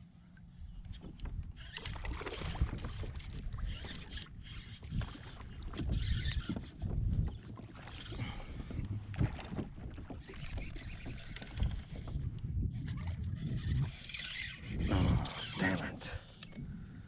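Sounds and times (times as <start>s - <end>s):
water splashing around kayak: 0.8s - 17.0s.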